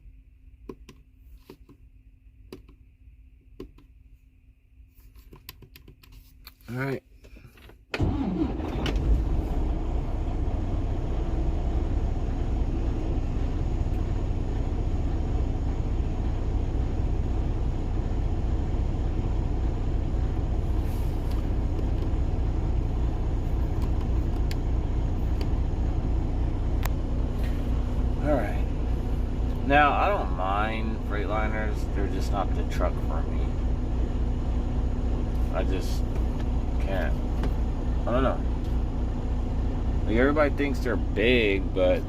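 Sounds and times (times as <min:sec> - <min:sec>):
diesel truck engine starting and idling: 0:07.9 - 0:42.0.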